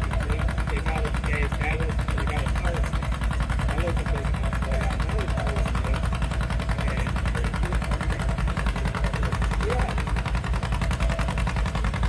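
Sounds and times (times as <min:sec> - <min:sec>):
tractor engine running hard: 0:00.0 - 0:12.0.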